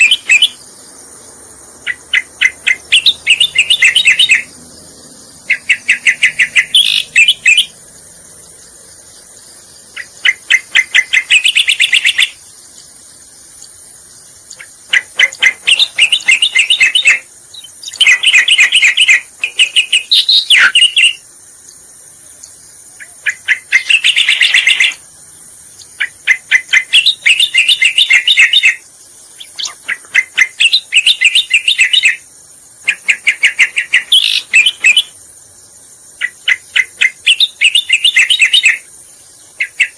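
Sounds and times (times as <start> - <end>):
bird song with chattering notes: 0.0 - 39.9
high insect hiss: 0.0 - 39.9.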